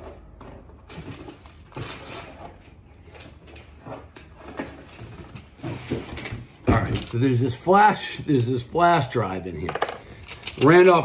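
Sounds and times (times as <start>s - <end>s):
papers and packaging rustling: 0.0s - 7.5s, 9.6s - 11.0s.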